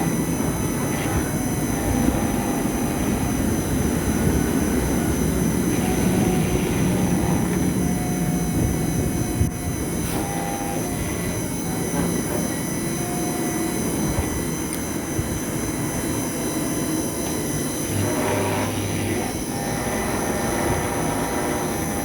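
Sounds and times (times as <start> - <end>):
spindle high-pitched whine: 0.0 - 22.0
steady rumble: 0.0 - 22.0.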